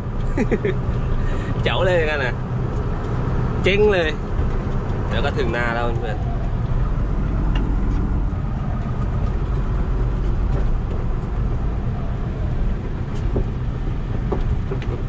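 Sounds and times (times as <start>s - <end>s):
road noise: 0.0s - 15.0s
vehicle engine rumbling: 0.0s - 15.0s.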